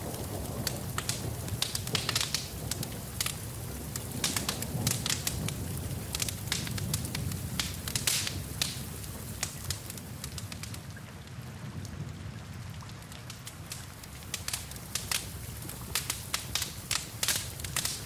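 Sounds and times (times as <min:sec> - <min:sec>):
rain hissing: 0:00.0 - 0:11.1, 0:12.0 - 0:18.0
wood fire crackling: 0:00.0 - 0:18.0.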